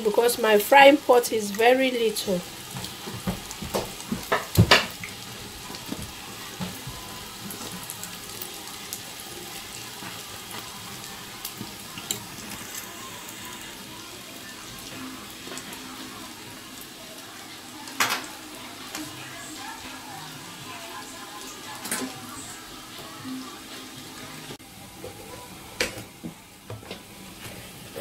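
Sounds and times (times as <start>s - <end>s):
dough deep-frying in oil: 0.0s - 28.0s.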